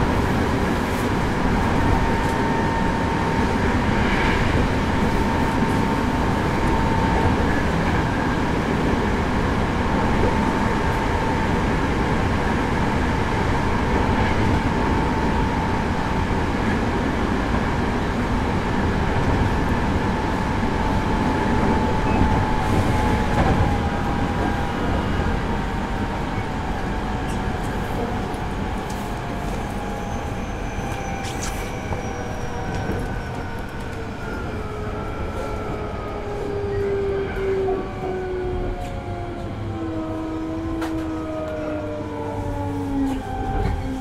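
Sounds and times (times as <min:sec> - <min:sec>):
train inverter whine descending: 0:00.0 - 0:44.0
wheels rumbling on rail: 0:00.0 - 0:44.0.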